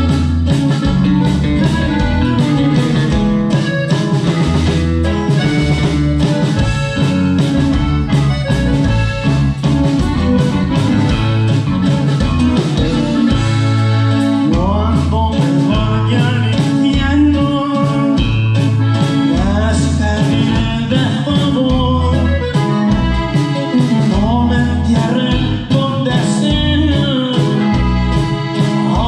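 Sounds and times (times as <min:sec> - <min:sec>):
drum kit steady beat: 0:00.0 - 0:29.0
live band playing: 0:00.0 - 0:29.0
sliding melody line: 0:00.0 - 0:29.0.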